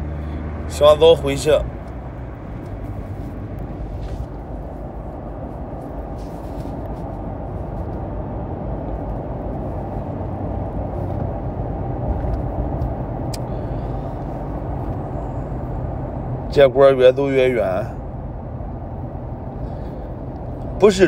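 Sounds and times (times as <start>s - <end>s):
car cabin road and engine rumble: 0.0s - 21.0s.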